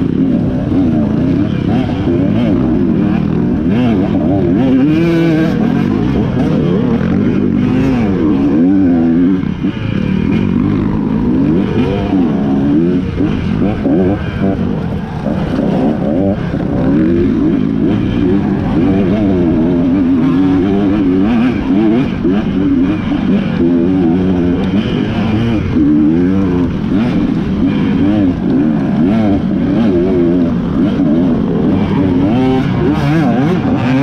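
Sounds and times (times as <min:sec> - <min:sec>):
motorcycle engines revving hard: 0:00.0 - 0:34.0.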